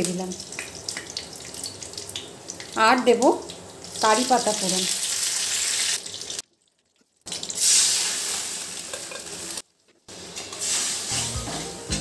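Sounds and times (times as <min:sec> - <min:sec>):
spices sizzling in hot oil: 0:00.0 - 0:11.9.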